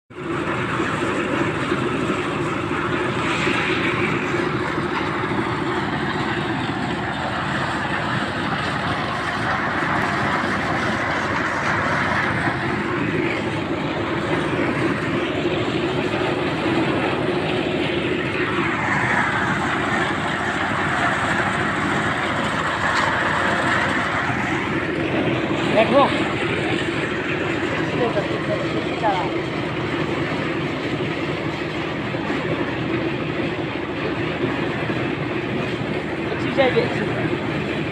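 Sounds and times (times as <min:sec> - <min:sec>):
concrete mixer engine hum: 0:00.1 - 0:37.9
rushing noise of mixer drum: 0:00.1 - 0:37.9.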